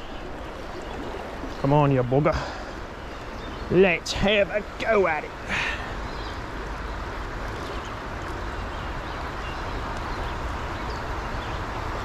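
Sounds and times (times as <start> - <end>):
water rushing in rocky stream: 0.0 - 12.0.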